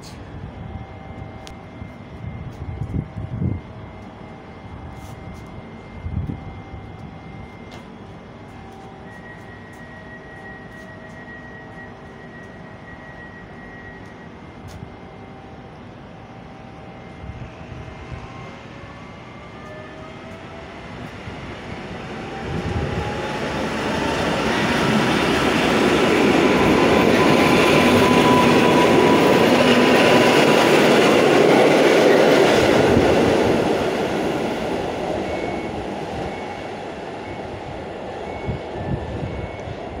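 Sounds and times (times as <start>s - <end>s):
electric train passing: 0.0s - 40.0s.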